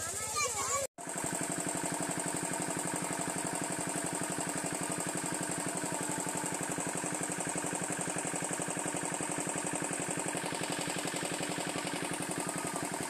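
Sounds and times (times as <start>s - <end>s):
engine water pump knocking: 1.0s - 13.0s.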